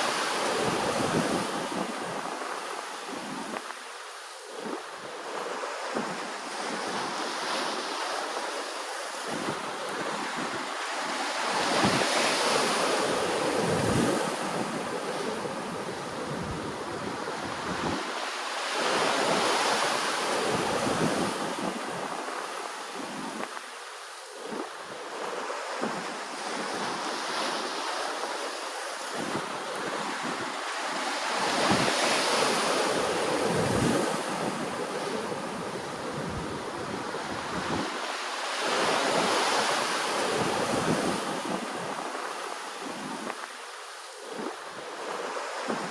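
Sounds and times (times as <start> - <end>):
ocean waves washing: 0.0 - 45.9
wind buffeting microphone: 0.3 - 3.8, 8.6 - 23.7, 24.4 - 43.6, 44.2 - 45.9.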